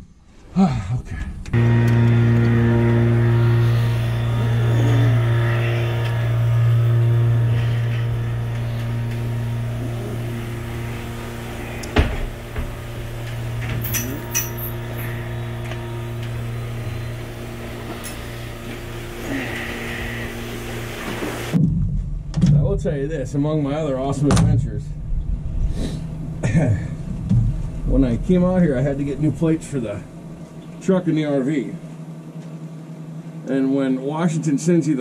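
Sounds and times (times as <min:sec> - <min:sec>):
low electrical hum of equipment: 0:00.0 - 0:35.0.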